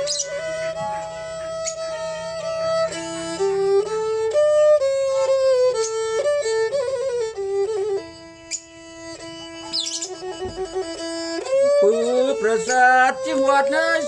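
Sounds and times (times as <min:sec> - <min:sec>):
bowed fiddle melody: 0:00.0 - 0:14.0.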